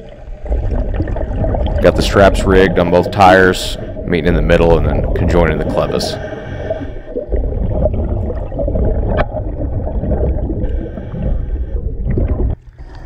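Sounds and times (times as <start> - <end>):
underwater rumbling and gurgling: 0.0 - 13.0.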